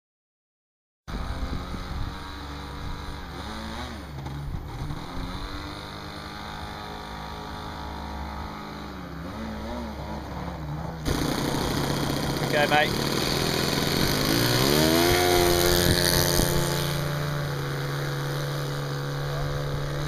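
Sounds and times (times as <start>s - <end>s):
small engine running: 1.1s - 20.0s.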